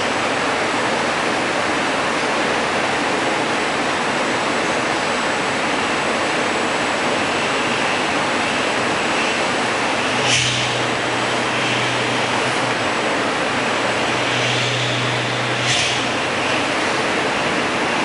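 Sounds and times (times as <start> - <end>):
loud white noise hiss: 0.0 - 18.0.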